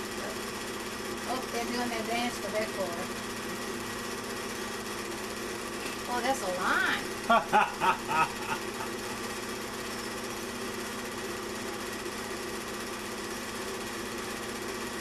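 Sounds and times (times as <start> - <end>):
small machine whirring: 0.0 - 15.0.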